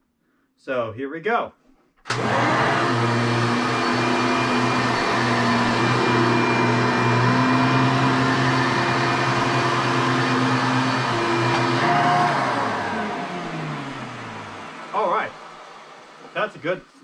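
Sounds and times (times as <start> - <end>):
vacuum cleaner running: 2.1 - 17.0.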